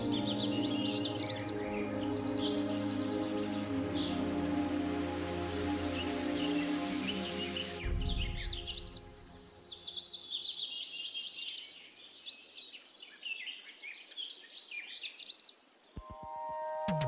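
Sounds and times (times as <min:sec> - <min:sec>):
birds chirping and singing: 0:00.0 - 0:16.1.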